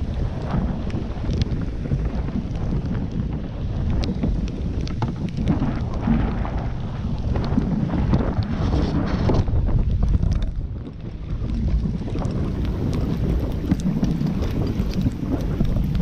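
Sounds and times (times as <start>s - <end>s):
rain spattering: 0.0s - 16.0s
raindrop taps: 0.0s - 16.0s
wind buffeting microphone: 0.0s - 16.0s.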